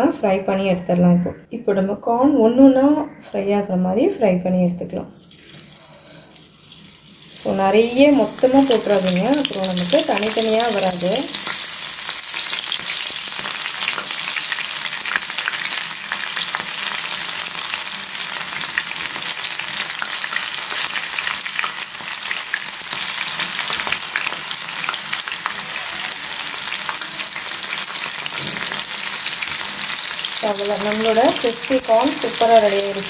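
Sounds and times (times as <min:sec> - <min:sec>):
corn deep-frying in oil: 0:05.2 - 0:33.0.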